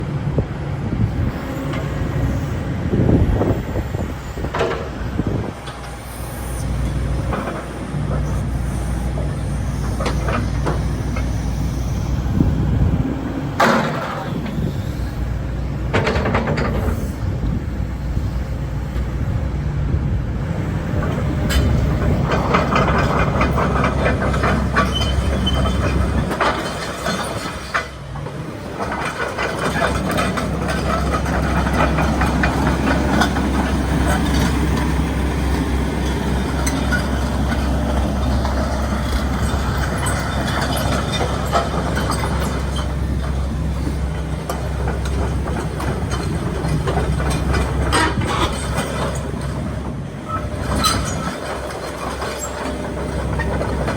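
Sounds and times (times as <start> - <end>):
excavator diesel engine droning: 0.0 - 53.9.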